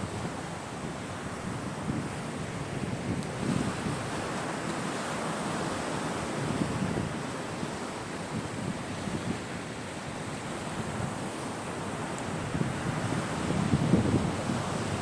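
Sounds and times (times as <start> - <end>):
sea waves on shore: 0.0 - 15.0
wind: 0.0 - 15.0.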